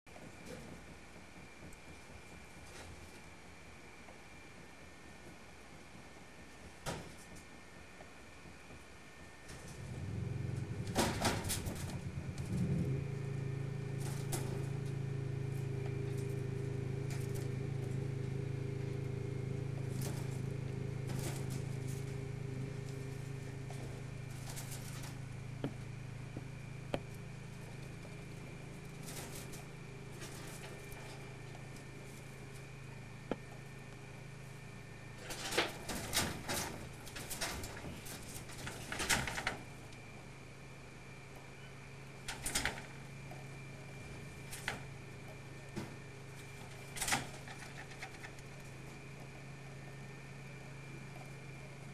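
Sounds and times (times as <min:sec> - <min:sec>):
steady low hum: 0:00.1 - 0:51.9.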